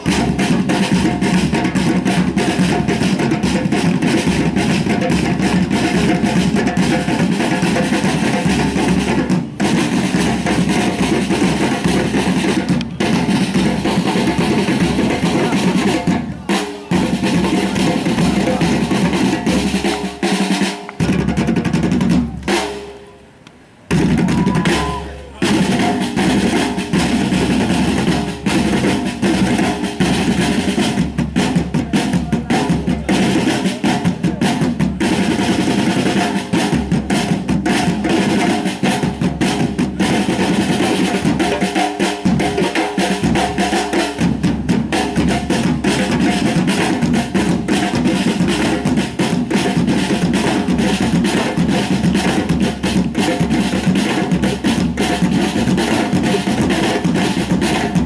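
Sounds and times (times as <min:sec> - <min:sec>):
drum-driven music: 0:00.0 - 0:23.1, 0:23.9 - 0:58.0.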